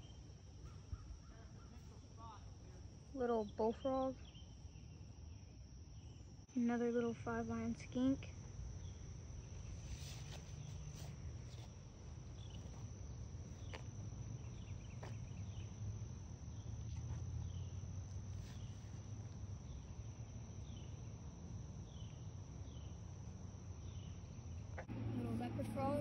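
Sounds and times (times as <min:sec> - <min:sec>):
high-pitched insect trill: 0:00.0 - 0:24.8
low steady rumble: 0:04.7 - 0:26.0.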